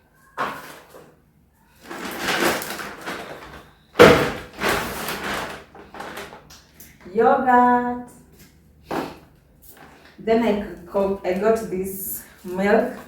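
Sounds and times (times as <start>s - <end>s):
groceries rustling: 0.0s - 13.0s.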